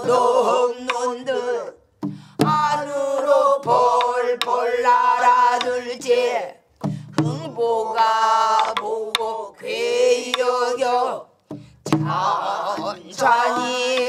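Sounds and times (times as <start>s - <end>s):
group singing in unison: 0.0s - 14.0s.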